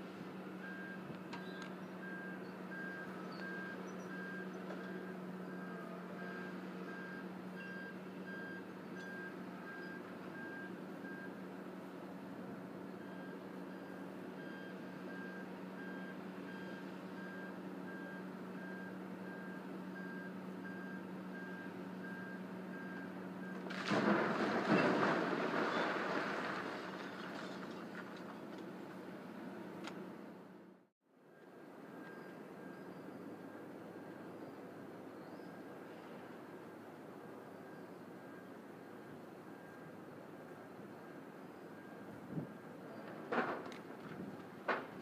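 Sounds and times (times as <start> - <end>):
heavy machine engine hum: 0.0 - 45.0.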